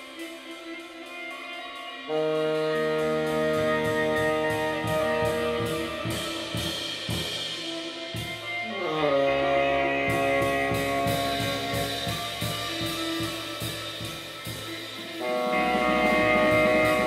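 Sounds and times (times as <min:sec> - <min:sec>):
drum kit and cymbals: 0:00.0 - 0:17.0
tenor saxophone long notes: 0:02.0 - 0:17.0.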